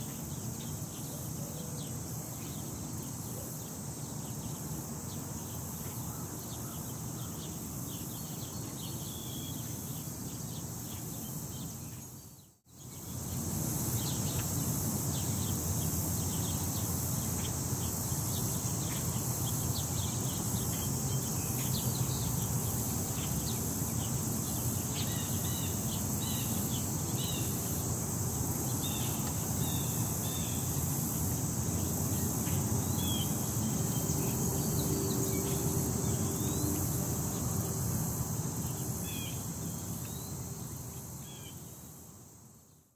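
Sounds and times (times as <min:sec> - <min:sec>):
steady high hiss: 0:00.0 - 0:42.9.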